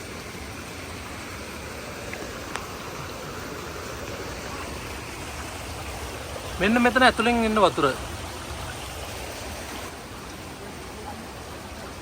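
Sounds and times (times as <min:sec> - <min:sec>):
stream water flowing over rocks: 0:00.0 - 0:12.0.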